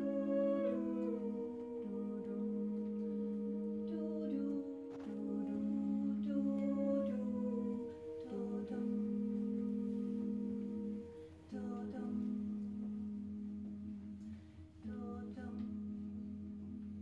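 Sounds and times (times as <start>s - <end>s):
women humming in harmony: 0.0s - 17.0s.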